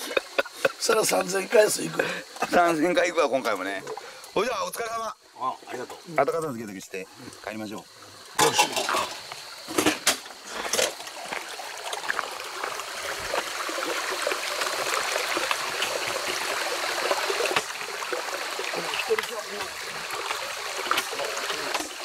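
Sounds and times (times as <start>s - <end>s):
stream running over gravel: 0.0s - 22.0s.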